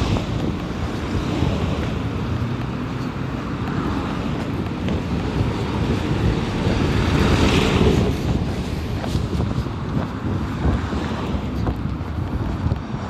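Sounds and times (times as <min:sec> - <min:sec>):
passing vehicles: 0:00.0 - 0:13.0
wind rumbling on microphone: 0:00.0 - 0:13.0.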